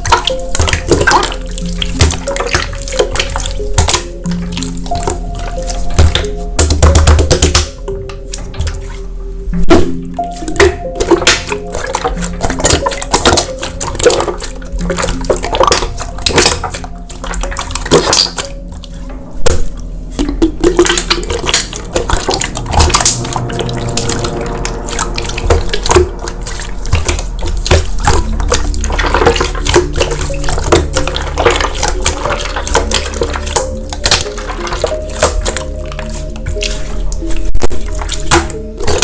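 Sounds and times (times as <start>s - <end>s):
slime squishing: 0.0s - 39.0s
soft background music: 0.0s - 39.0s.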